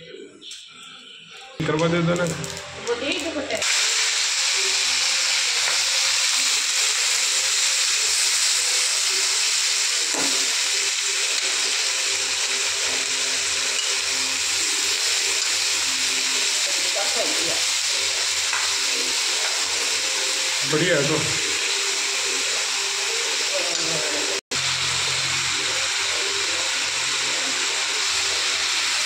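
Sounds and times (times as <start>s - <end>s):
vegetables sizzling in hot oil: 1.9s - 29.0s.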